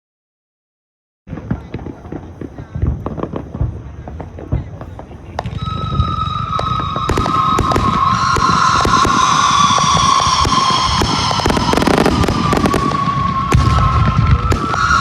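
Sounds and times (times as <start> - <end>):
fireworks bangs and crackles: 1.3 - 15.0.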